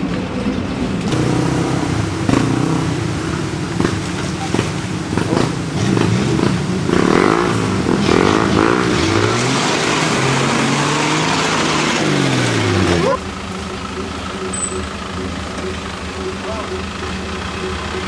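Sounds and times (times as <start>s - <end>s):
pickup engine revving: 0.0s - 18.0s
spinning tyres spraying mud: 0.0s - 18.0s.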